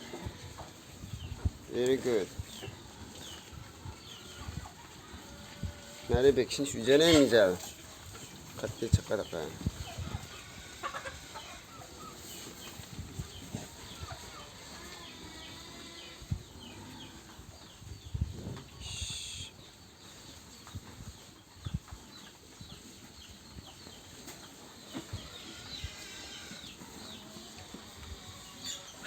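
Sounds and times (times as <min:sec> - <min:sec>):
chickens chirping: 0:00.0 - 0:29.0.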